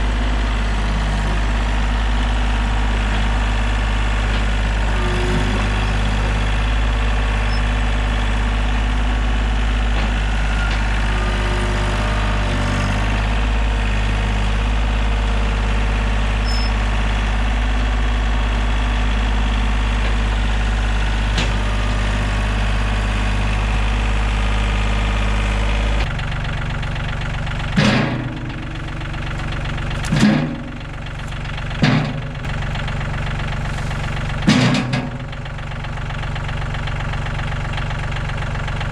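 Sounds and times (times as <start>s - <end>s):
heavy equipment diesel engine running: 0.0s - 38.9s.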